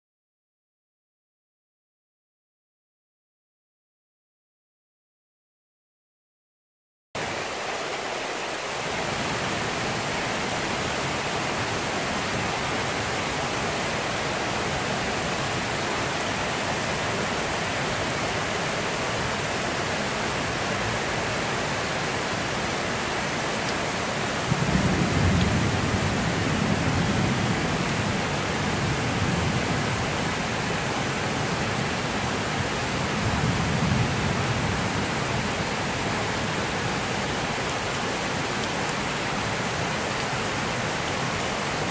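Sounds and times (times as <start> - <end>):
heavy rain falling: 7.2 - 41.9.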